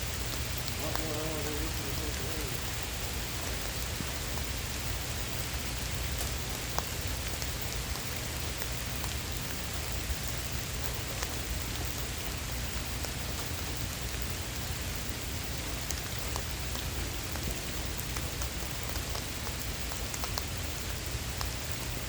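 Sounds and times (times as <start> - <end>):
heavy rain falling: 0.0 - 22.0
raindrops ticking near microphone: 0.0 - 22.0.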